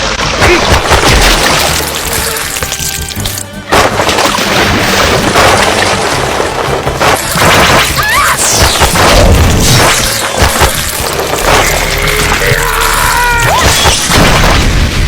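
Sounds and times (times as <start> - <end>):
music: 0.0 - 15.0
crashing and smashing impacts: 0.2 - 15.0.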